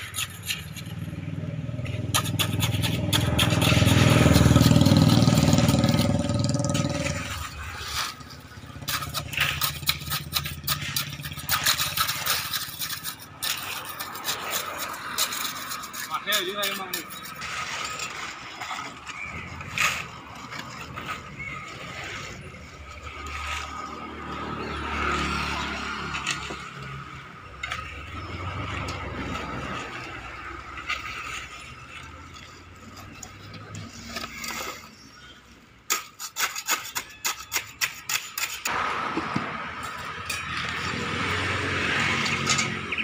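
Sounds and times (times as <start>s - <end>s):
road traffic rumble: 0.0s - 36.2s, 37.1s - 43.0s
trowel scraping wet concrete: 0.0s - 43.0s.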